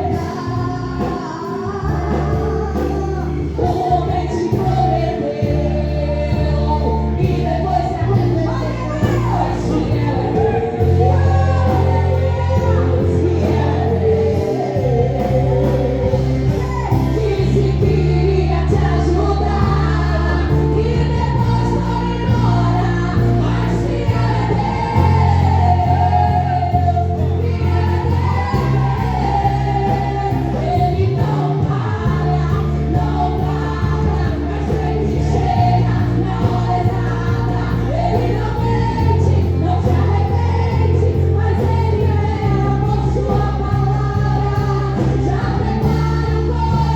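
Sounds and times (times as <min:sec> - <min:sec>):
band playing: 0:00.0 - 0:46.9
heavy bass line: 0:00.0 - 0:46.9
voices singing: 0:00.0 - 0:46.9.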